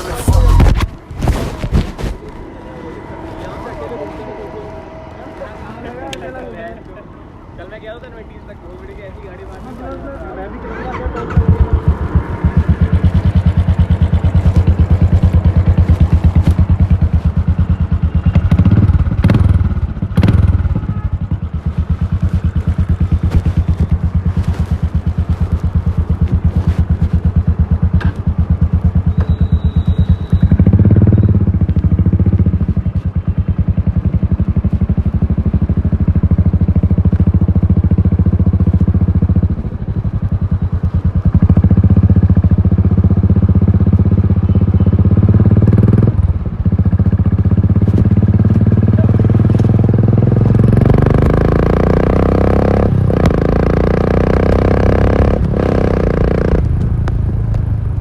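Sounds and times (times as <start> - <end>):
motorcycle engine running: 0.0 - 5.5, 10.4 - 58.0.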